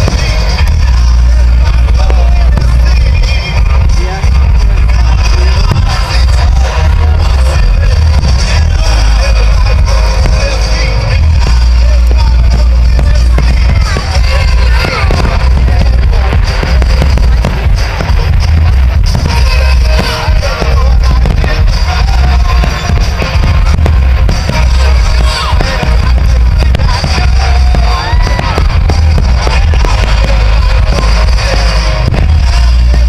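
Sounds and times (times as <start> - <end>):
fireworks bursting: 0.0 - 33.0
loud music: 0.0 - 33.0.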